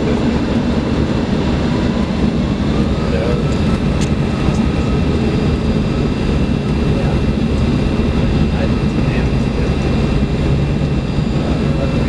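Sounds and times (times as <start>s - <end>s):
jet cabin engine rumble: 0.0s - 12.0s.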